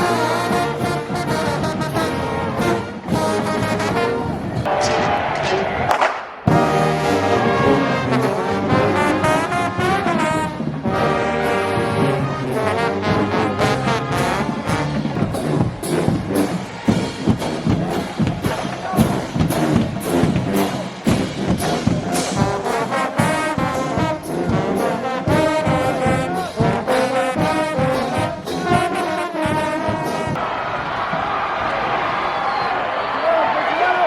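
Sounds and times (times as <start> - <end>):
steady drum beat: 0.0 - 5.5, 6.5 - 30.4
brass instruments playing: 0.0 - 5.8, 6.5 - 30.5.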